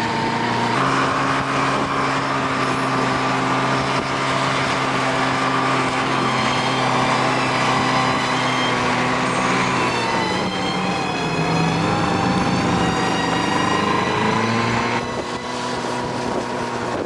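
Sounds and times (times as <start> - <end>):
snowmobile engine running: 0.0 - 17.0
track and wind noise: 0.0 - 17.0.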